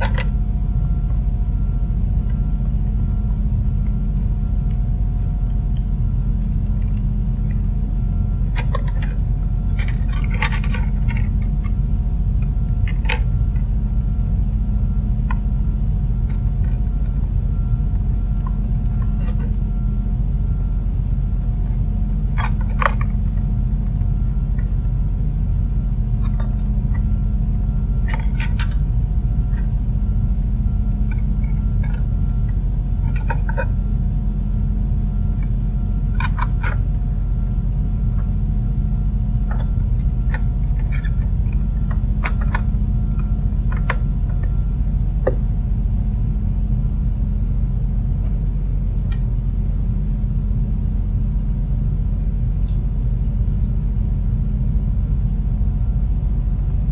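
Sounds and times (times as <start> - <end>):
faint hum: 0.0 - 56.9
low rumble: 0.0 - 56.9.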